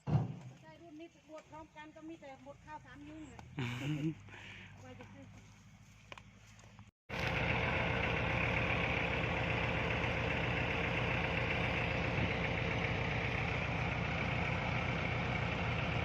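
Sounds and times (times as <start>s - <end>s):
tractor diesel engine running: 2.4s - 16.0s.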